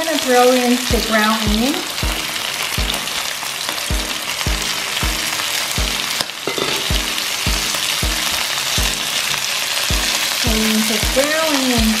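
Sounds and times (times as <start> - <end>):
food sizzling in frying pan: 0.0 - 12.0
background music with beat: 0.9 - 12.0.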